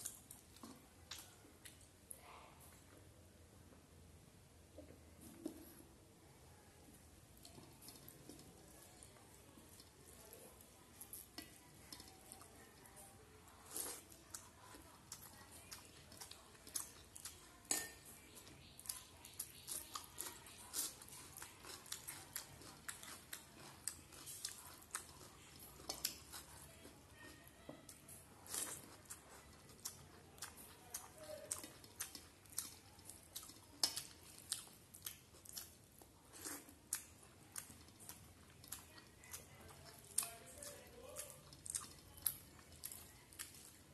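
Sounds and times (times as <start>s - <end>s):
close-up chewing: 7.3s - 43.9s.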